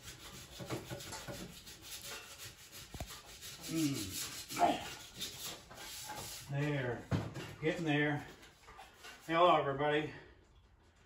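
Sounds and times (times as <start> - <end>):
hand sanding metal: 0.0 - 6.9, 7.6 - 9.7.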